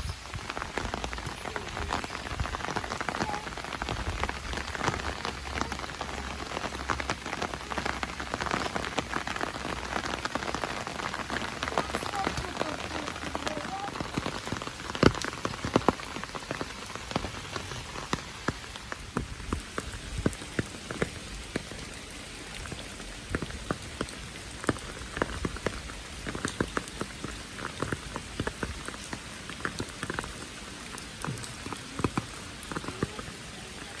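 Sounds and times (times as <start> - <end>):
rain hissing: 0.0 - 34.0
raindrops tapping: 0.0 - 34.0.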